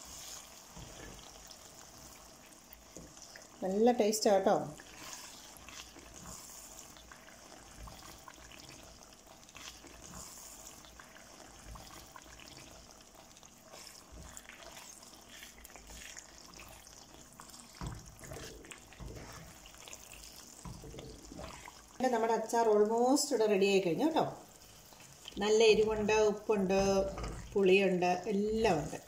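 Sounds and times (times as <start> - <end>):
spatula stirring sticky pickle: 0.0 - 29.0.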